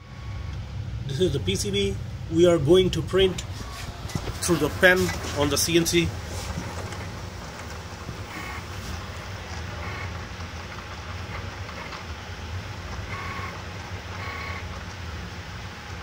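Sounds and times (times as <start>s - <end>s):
stepper motors humming: 0.0s - 16.0s.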